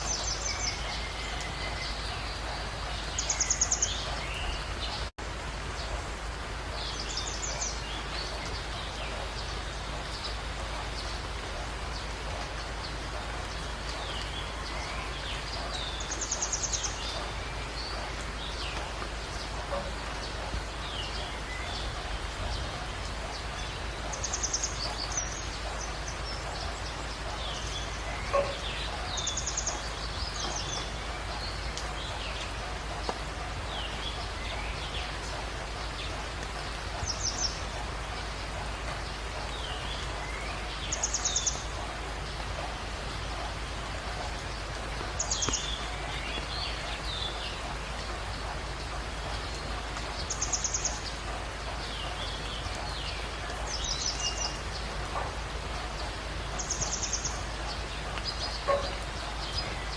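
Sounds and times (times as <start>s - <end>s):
rain-like hiss: 0.0s - 59.9s.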